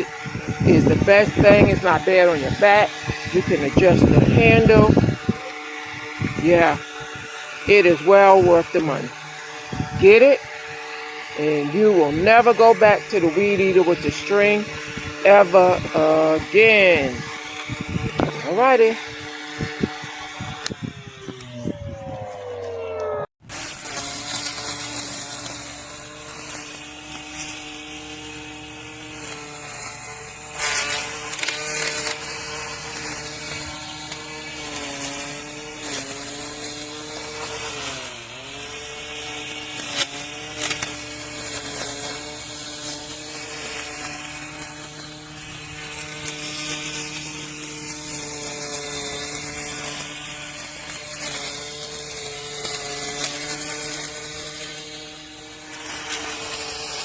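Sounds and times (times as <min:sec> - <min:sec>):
trimmer blade clacking on stems: 0:00.0 - 0:21.5, 0:23.5 - 0:57.0
weed trimmer motor whine: 0:00.0 - 0:57.0.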